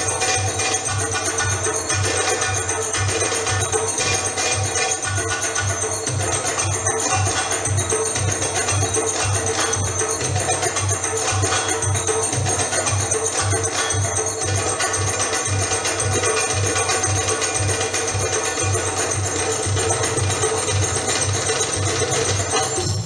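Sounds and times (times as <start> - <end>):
goblet drum solo: 0.0 - 23.0.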